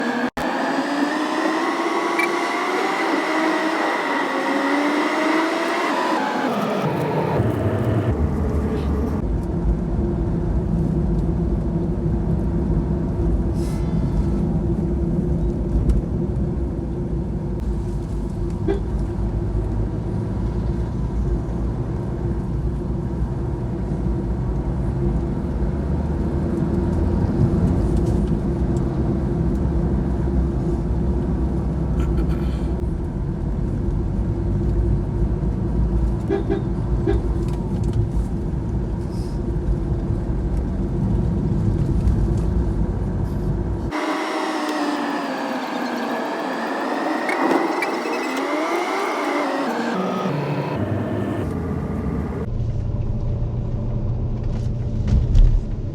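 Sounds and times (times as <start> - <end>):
vehicle engine drone: 0.0 - 55.9.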